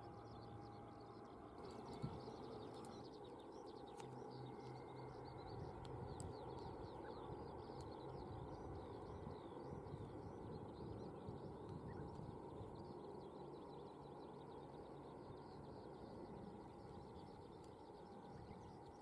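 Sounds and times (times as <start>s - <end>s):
distant propeller plane drone: 0.0s - 19.0s
small birds chirping: 0.0s - 19.0s.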